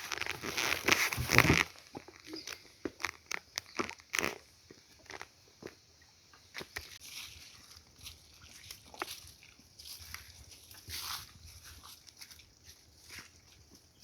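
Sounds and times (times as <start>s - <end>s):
footsteps crunching through undergrowth: 0.0s - 5.8s, 6.5s - 14.0s.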